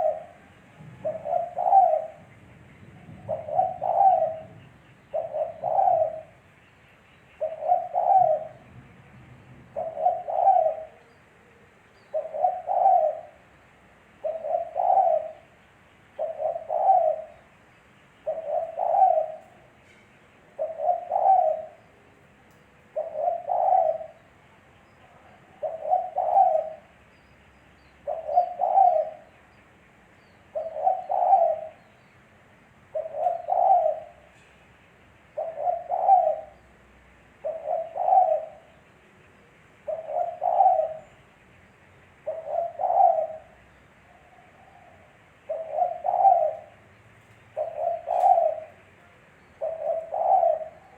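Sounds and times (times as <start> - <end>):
dove cooing: 0.0 - 6.6, 7.4 - 8.8, 9.7 - 17.6, 18.2 - 19.8, 20.5 - 24.4, 25.0 - 27.0, 28.0 - 29.4, 30.5 - 32.0, 32.9 - 34.4, 35.3 - 41.3, 42.2 - 50.9.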